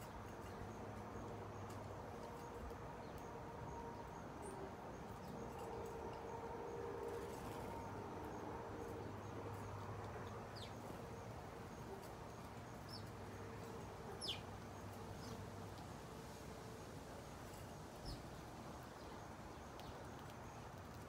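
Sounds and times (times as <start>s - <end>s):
sparrows chirping: 0.0s - 16.4s, 17.4s - 21.0s
faint low hum: 0.0s - 21.0s.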